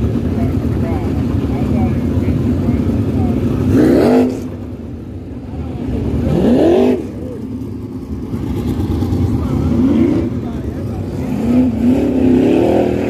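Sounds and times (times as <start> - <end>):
race car engines rumbling: 0.0 - 13.0.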